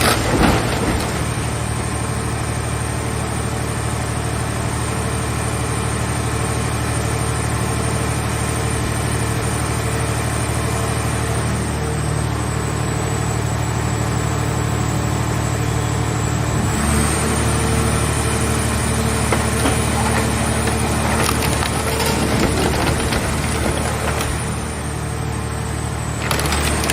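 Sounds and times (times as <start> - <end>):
hydraulic baler humming: 0.0 - 5.4, 6.0 - 26.9.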